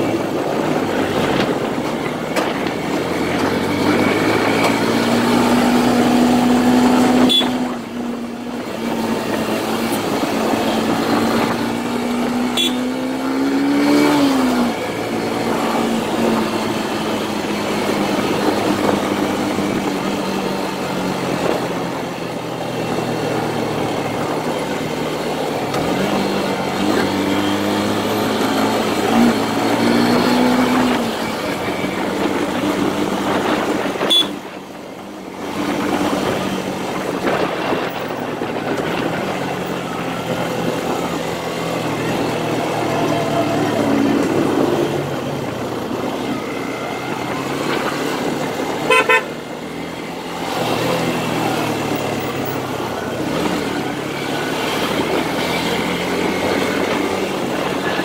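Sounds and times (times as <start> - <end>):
motorcycle engine accelerating: 0.0 - 58.0
wind noise over microphone: 0.0 - 58.0.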